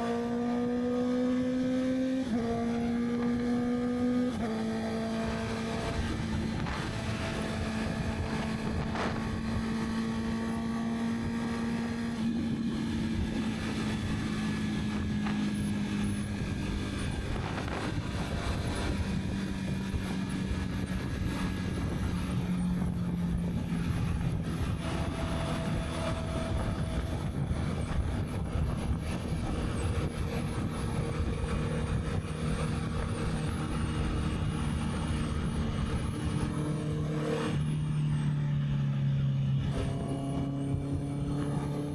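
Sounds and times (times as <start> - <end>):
wind noise on microphone: 0.0 - 38.2, 39.4 - 41.9
motorcycle engine running: 0.0 - 41.9.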